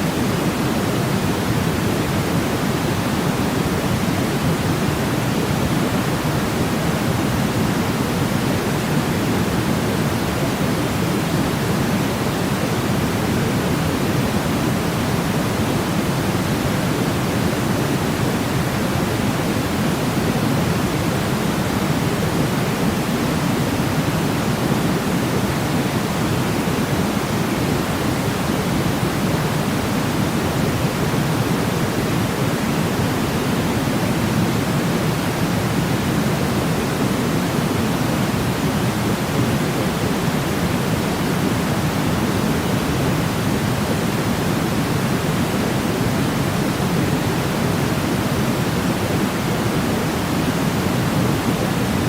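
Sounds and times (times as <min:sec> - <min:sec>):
pink noise hiss: 0:00.0 - 0:52.0.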